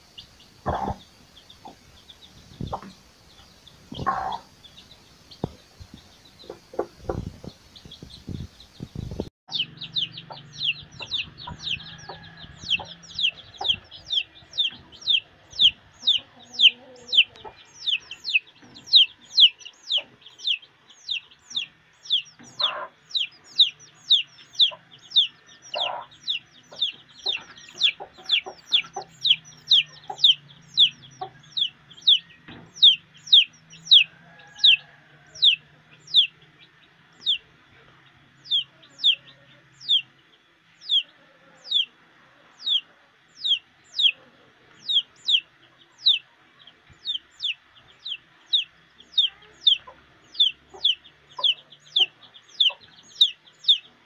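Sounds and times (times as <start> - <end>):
hen clucking: 0.0 - 40.2, 40.8 - 54.0
chicks peeping: 0.0 - 54.0.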